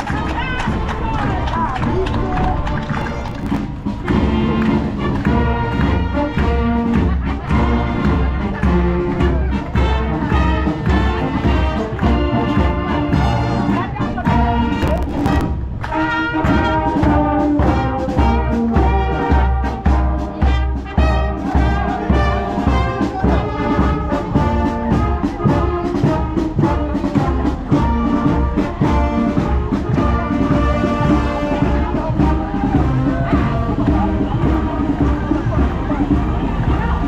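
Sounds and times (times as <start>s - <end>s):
low drum beat: 0.0s - 37.0s
trumpets and trombones playing: 0.0s - 37.0s.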